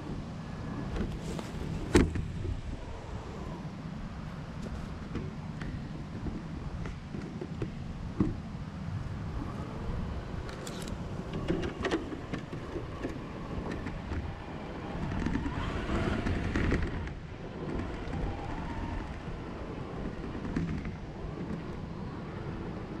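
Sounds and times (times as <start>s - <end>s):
toy car tyres rumbling: 0.0s - 23.0s.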